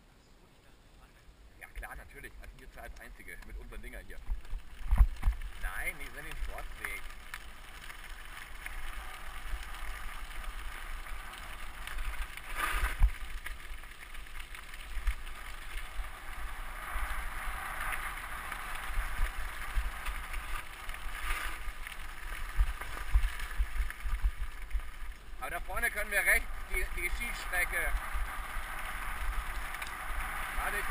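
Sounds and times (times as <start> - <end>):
bike tyres crunching on gravel: 1.7 - 30.9.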